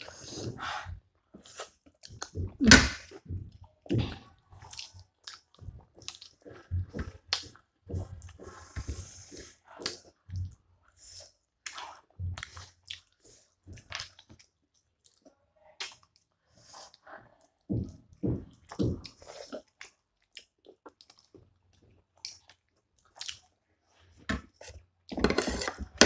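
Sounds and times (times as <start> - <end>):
people chewing and smacking: 0.0 - 26.0.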